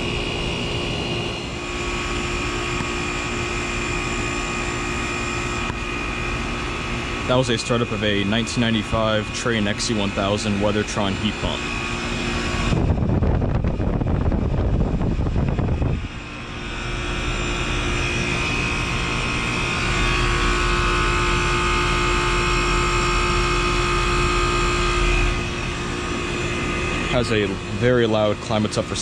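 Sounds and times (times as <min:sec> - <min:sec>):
heat pump compressor humming: 0:00.0 - 0:29.0
outdoor fan: 0:00.0 - 0:29.0.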